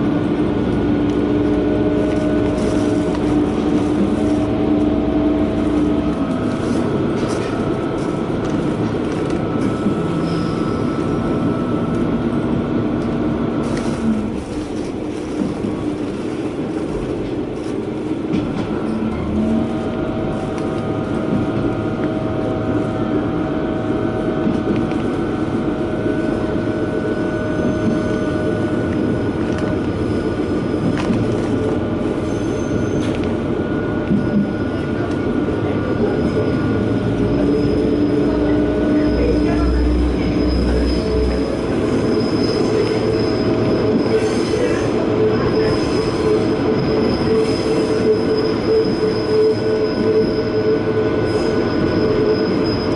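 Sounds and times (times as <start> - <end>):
railcar engine and wheels rumbling: 0.0 - 52.9.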